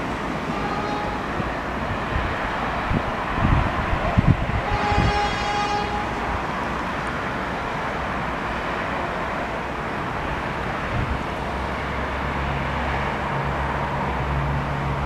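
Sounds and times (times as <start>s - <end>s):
diesel train pulling away: 0.0s - 15.0s
road traffic noise: 0.0s - 15.0s.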